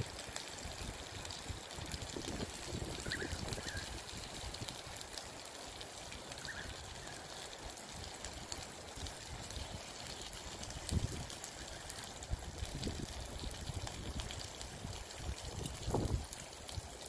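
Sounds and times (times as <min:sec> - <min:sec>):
food sizzling on a grill plate: 0:00.0 - 0:17.0.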